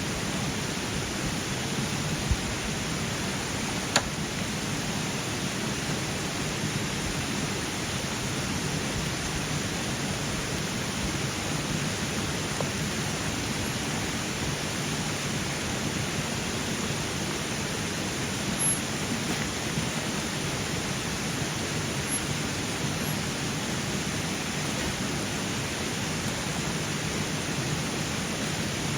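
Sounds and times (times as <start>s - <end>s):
stream flowing: 0.0s - 28.9s.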